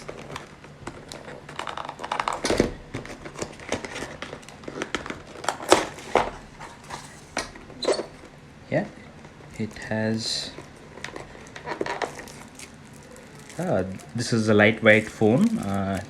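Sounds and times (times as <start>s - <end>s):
packaging crinkling: 0.0s - 8.4s, 9.0s - 16.0s.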